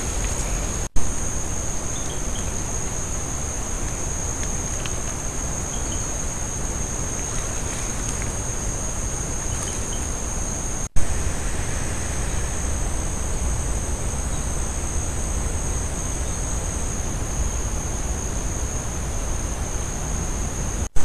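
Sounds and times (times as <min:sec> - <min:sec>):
low rumble and hiss: 0:00.0 - 0:21.0
steady high-pitched whines: 0:00.0 - 0:21.0.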